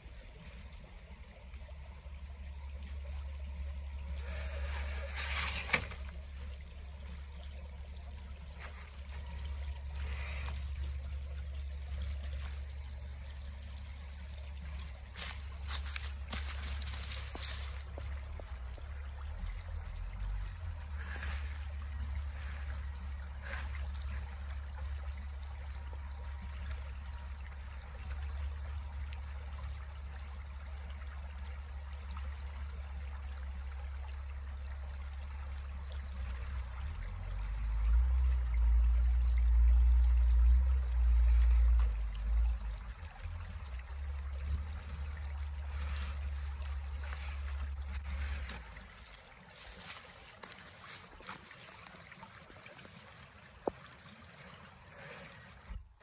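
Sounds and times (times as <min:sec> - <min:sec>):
creek water trickling over rocks: 0:00.0 - 0:56.0.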